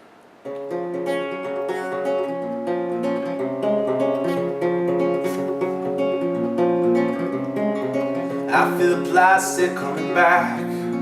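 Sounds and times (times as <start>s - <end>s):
acoustic guitar strumming chords: 0.4s - 11.0s.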